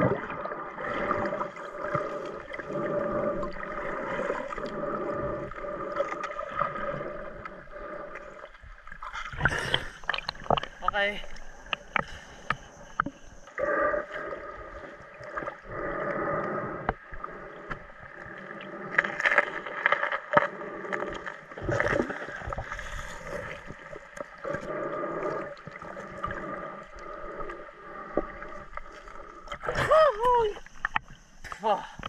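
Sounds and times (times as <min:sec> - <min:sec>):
muffled water sloshing and gurgling: 0:00.0 - 0:32.0.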